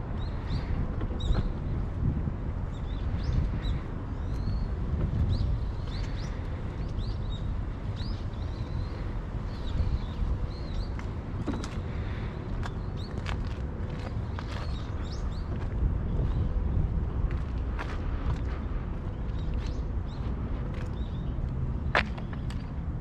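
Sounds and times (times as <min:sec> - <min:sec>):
small birds chirping: 0:02.6 - 0:16.9, 0:18.4 - 0:22.8.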